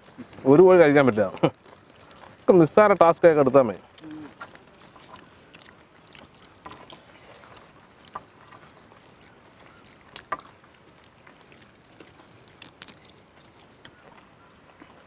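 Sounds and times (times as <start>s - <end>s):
chicken torn and chewed: 0.0s - 15.0s.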